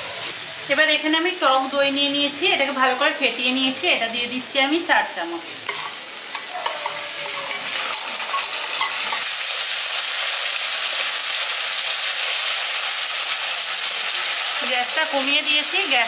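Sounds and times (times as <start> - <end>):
curd sizzling in hot oil: 0.0 - 16.0.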